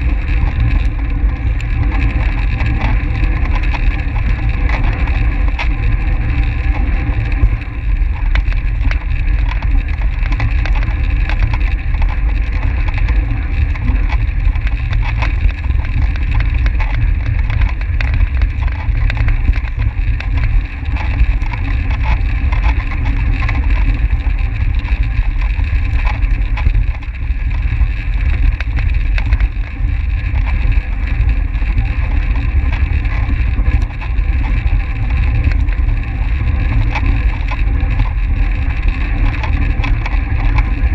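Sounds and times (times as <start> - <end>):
wind rush on microphone: 0.0 - 40.9
small clicks: 0.2 - 40.9.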